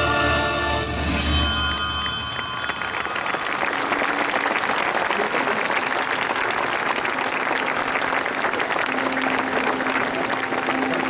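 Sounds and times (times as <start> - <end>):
audience applauding: 1.5 - 11.0.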